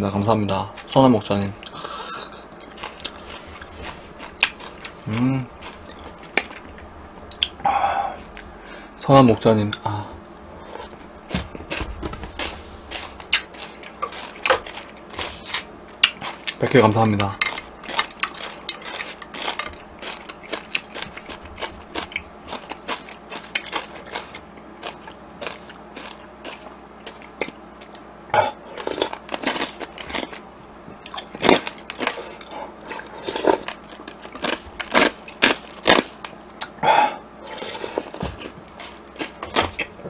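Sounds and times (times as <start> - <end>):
person chewing: 1.6 - 8.6, 9.7 - 40.0.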